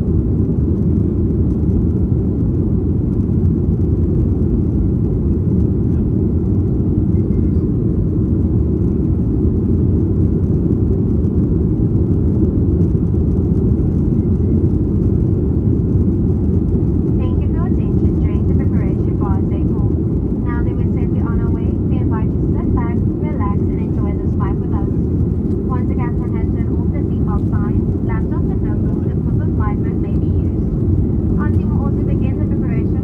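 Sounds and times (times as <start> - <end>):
jet engine roar in cabin: 0.0 - 33.0.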